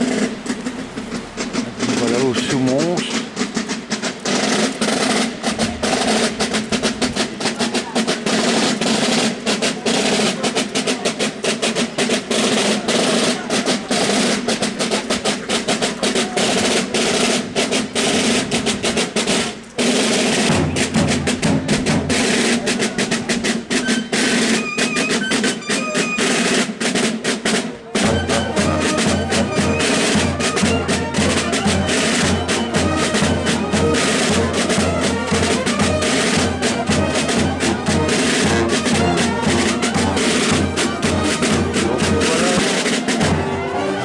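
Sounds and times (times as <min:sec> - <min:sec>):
snare and bass drums: 0:00.0 - 0:43.9.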